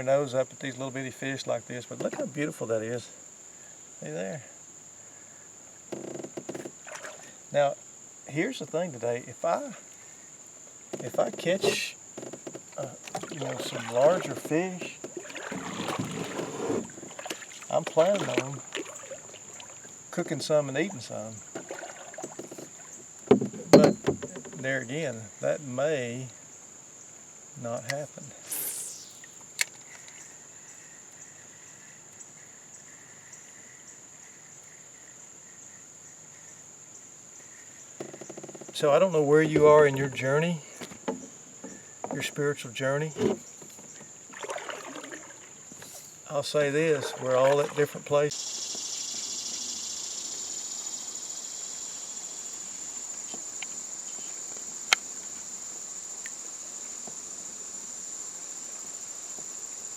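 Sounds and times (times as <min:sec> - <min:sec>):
lower insect call: 0:00.0 - 0:59.9
high-pitched insect trilling: 0:05.8 - 0:59.9.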